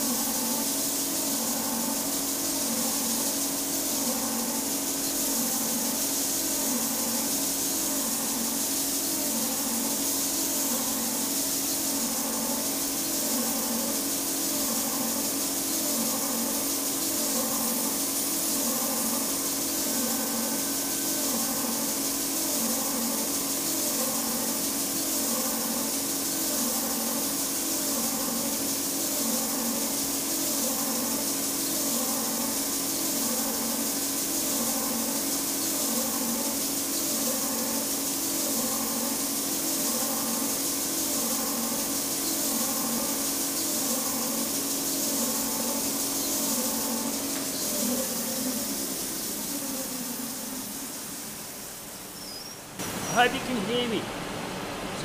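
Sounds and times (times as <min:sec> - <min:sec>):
belt sander sanding wood: 0:00.0 - 0:51.8.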